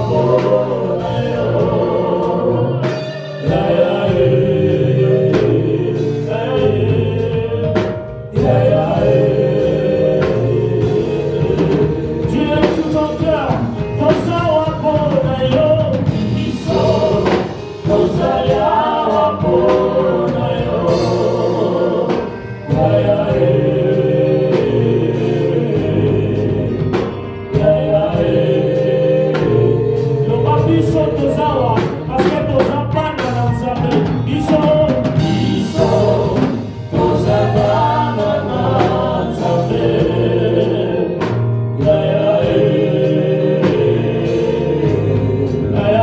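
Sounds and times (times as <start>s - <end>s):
beat and bass line: 0.0s - 46.0s
choir singing praise song: 0.0s - 46.0s.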